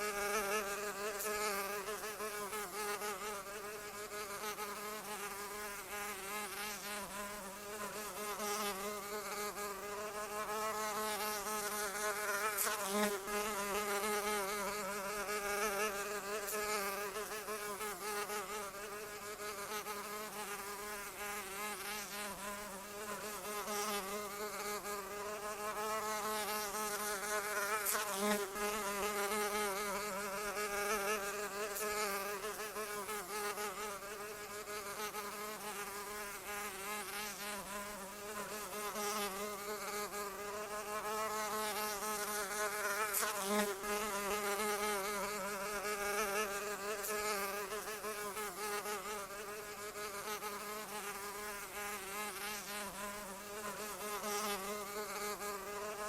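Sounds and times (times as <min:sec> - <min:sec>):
fly buzzing: 0:00.0 - 0:56.0.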